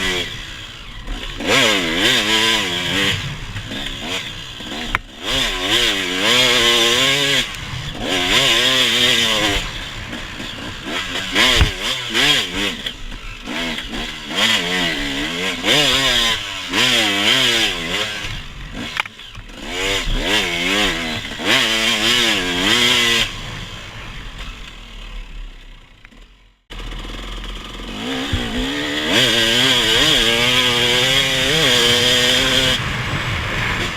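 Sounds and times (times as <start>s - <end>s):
off-road vehicle engine revving: 0.0s - 26.1s, 26.7s - 33.9s.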